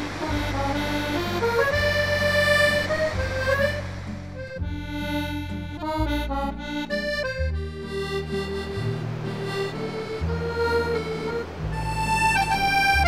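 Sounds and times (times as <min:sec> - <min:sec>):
instrumental background music: 0:00.0 - 0:13.0.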